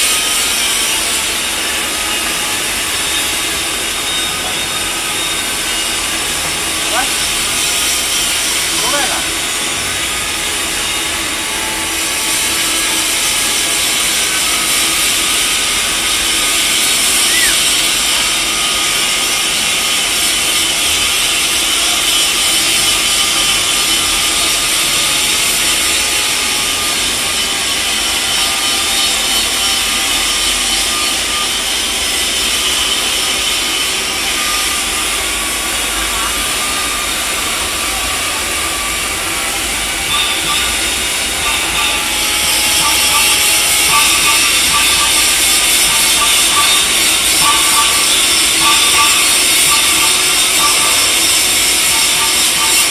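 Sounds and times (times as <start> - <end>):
arc welding hiss: 0.0 - 52.9.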